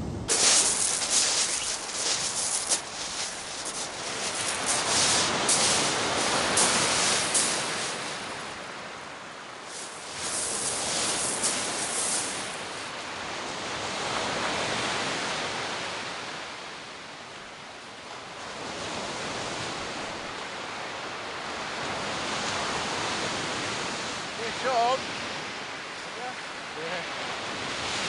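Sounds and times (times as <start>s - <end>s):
waves on shingle beach: 0.0s - 28.0s.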